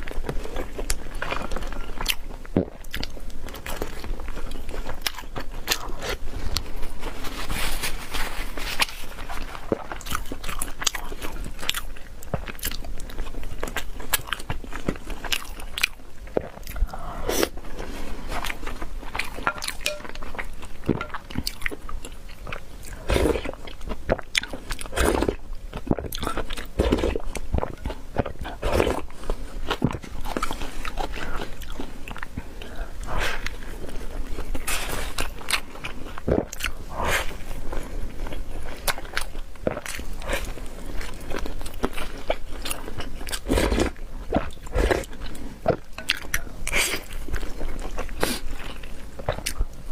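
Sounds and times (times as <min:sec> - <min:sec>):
crunchy food being chewed: 0:00.0 - 0:49.9.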